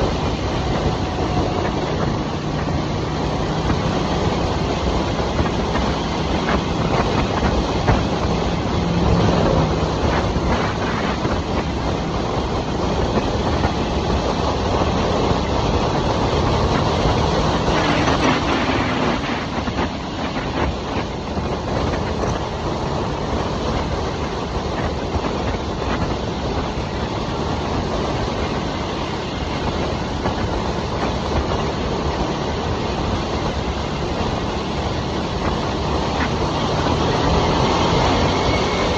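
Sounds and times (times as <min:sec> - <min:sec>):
motorcycle engine cruising: 0:00.0 - 0:38.9
wind and road rush: 0:00.0 - 0:38.9.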